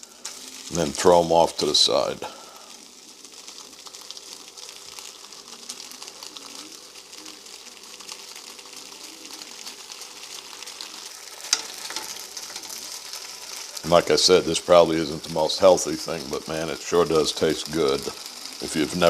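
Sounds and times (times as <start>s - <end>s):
meat sizzling in a pan: 0.0s - 19.0s.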